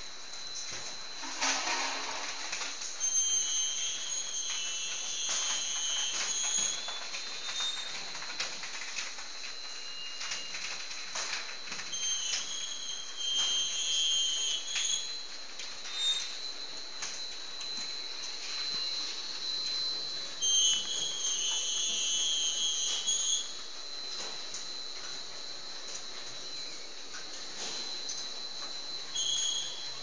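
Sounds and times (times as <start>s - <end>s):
machinery high whine: 0.0s - 30.0s
high metallic squeals: 0.5s - 8.9s, 9.5s - 30.0s.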